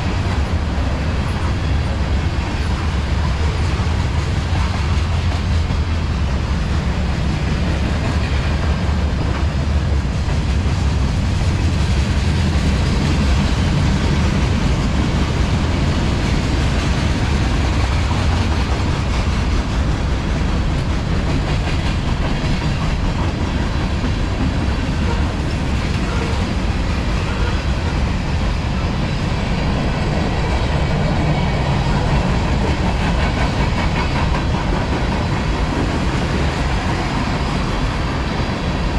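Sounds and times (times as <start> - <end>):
freight train wheels rumbling: 0.0 - 38.9
train wheels clickety-clack: 0.0 - 38.9.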